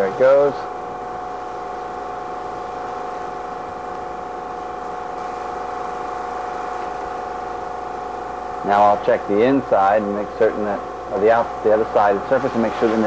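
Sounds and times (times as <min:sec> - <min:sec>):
fan and air conditioner droning: 0:00.0 - 0:13.0.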